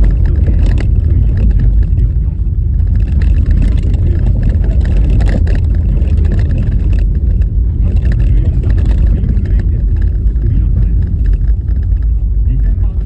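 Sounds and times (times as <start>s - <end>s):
rattles and knocks: 0.0s - 13.0s
road and tyre rumble: 0.0s - 13.0s.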